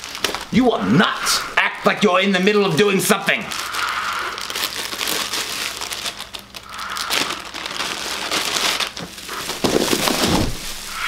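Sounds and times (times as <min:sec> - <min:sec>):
paper wrapping crinkling: 0:00.0 - 0:00.7, 0:02.7 - 0:11.0.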